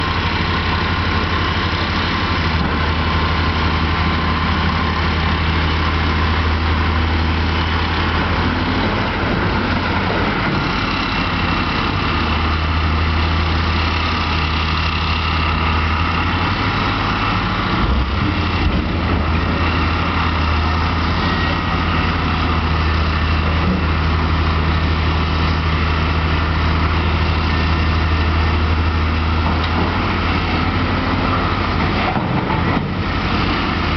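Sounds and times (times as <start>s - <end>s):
heavy diesel engines humming: 0.0s - 33.9s.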